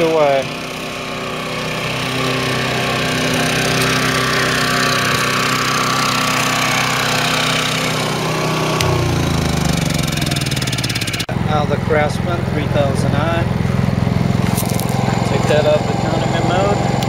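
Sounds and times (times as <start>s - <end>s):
generator engine running: 0.0s - 17.0s
other generators running: 0.0s - 17.0s.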